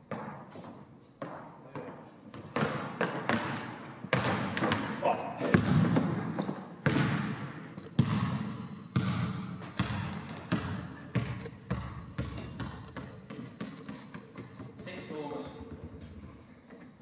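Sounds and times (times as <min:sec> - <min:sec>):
ball bouncing on wooden floor: 0:00.1 - 0:00.4, 0:01.2 - 0:16.1.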